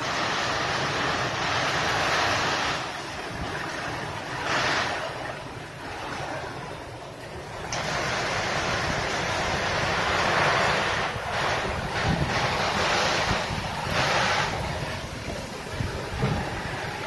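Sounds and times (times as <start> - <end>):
gusting wind: 0.0 - 17.0
heavy rain pouring: 0.0 - 17.0.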